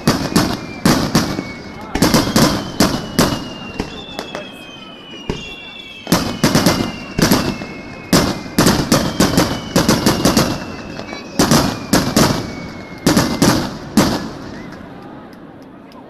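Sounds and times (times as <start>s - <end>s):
firework shells bursting: 0.0s - 14.9s.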